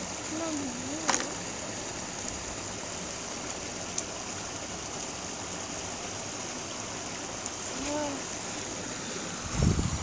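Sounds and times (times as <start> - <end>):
stream running: 0.0 - 10.0.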